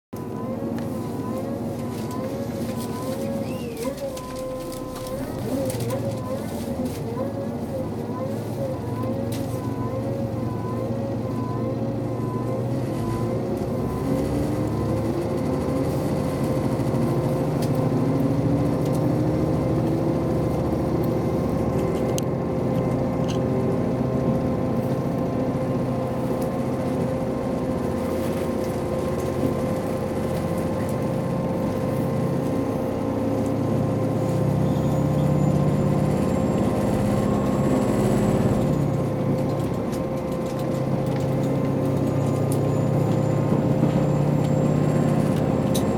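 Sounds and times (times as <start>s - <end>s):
diesel railcar engine running: 0.1s - 45.9s.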